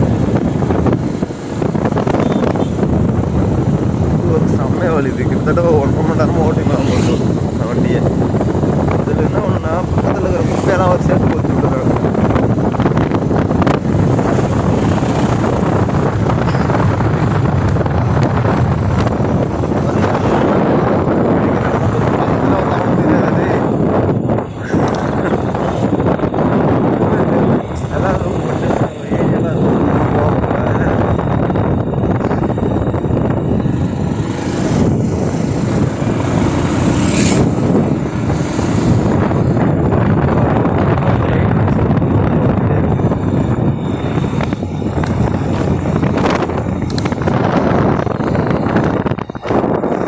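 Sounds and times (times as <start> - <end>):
motorbike running: 0.0 - 50.0
road noise: 0.0 - 50.0
wind buffeting microphone: 0.0 - 50.0.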